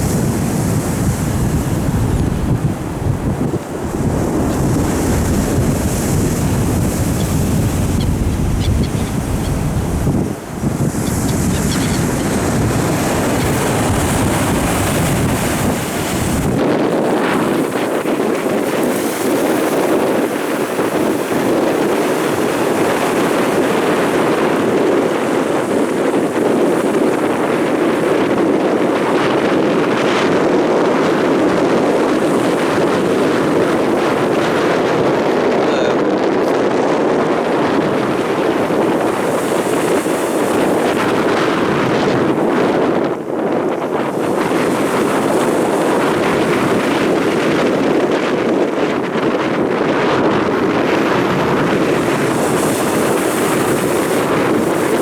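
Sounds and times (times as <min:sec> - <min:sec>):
waves roaring: 0:00.0 - 0:55.0
wind buffeting microphone: 0:00.0 - 0:55.0.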